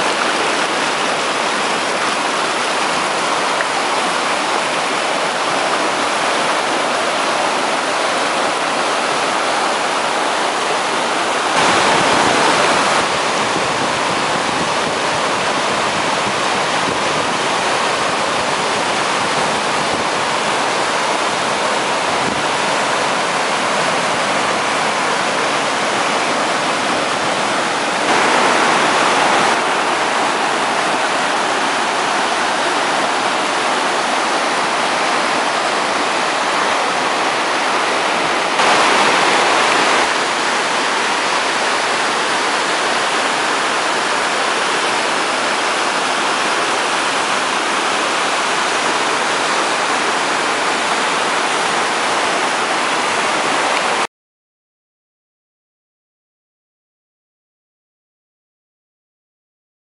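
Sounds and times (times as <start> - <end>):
waterfall rushing over rock: 0.0 - 54.1.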